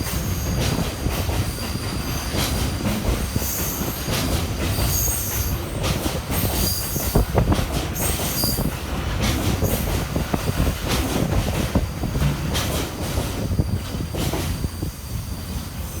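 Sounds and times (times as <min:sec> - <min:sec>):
train wagons rumbling past: 0:00.0 - 0:16.0.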